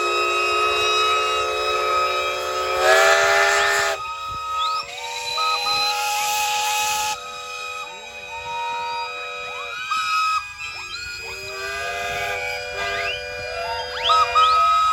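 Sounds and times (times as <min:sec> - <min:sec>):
steam hissing: 0:00.0 - 0:14.9
steam whistles blowing: 0:00.0 - 0:14.9.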